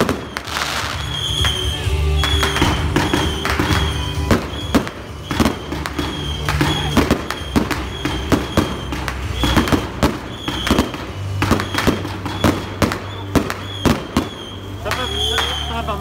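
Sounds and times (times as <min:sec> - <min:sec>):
firework bangs echoing: 0:00.0 - 0:16.0.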